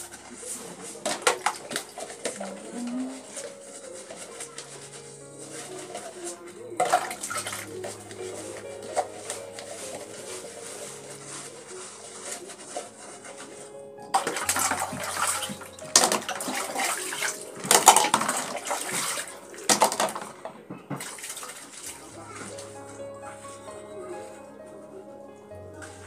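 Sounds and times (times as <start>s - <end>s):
water swishing and splashing: 0.0s - 24.4s.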